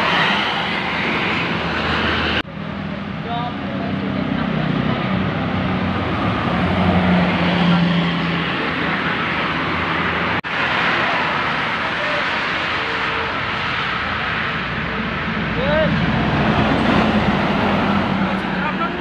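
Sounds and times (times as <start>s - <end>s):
bus engine hum: 0.0s - 19.0s
steady traffic noise: 0.0s - 19.0s.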